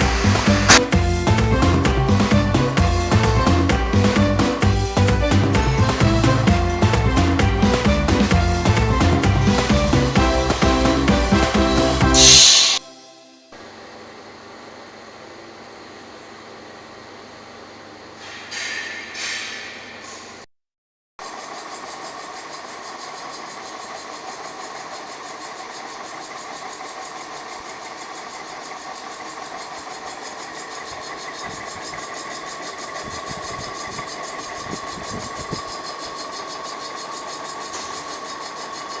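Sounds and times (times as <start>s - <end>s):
machine whining: 0.0s - 14.1s, 21.2s - 39.0s.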